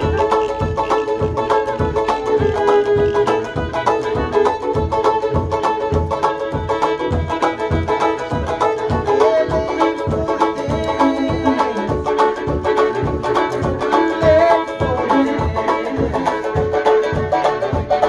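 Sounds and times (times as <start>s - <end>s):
fiddle and banjo duet: 0.0s - 18.0s
steady low beat: 0.0s - 18.0s.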